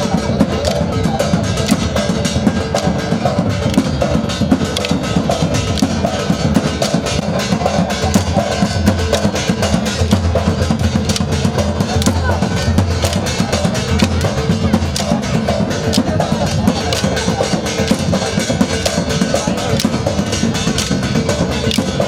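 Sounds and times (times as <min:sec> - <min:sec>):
heavy drum beat: 0:00.0 - 0:22.0
voices: 0:00.0 - 0:22.0.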